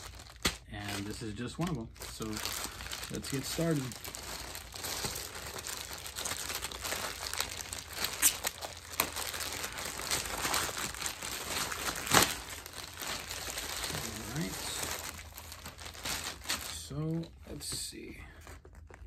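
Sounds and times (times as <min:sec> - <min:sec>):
plastic mailer bag being torn open: 0:00.0 - 0:16.9.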